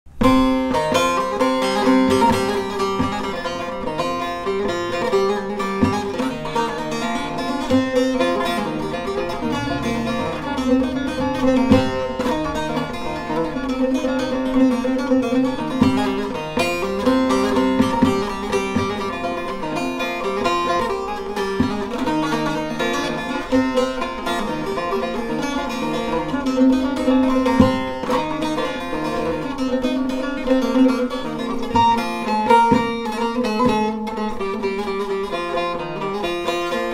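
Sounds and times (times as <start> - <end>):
plucked lute melody with drone: 0.1 - 36.9.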